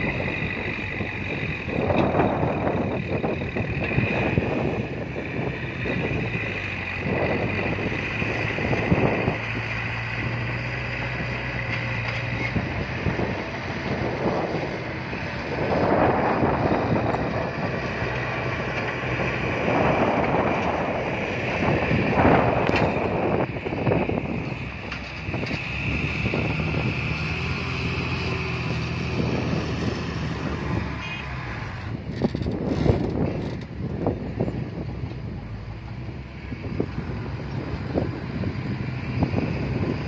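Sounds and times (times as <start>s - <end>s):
bulldozer diesel engine running: 0.0s - 40.0s
wind gusts on microphone: 0.0s - 40.0s.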